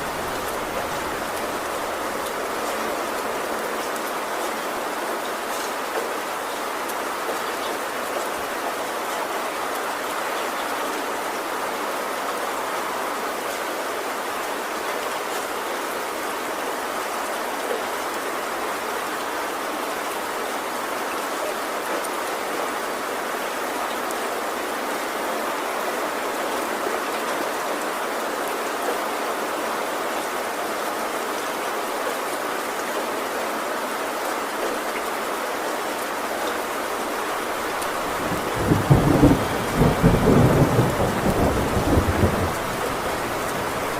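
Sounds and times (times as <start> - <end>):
heavy rain on a tin roof: 0.0 - 43.9.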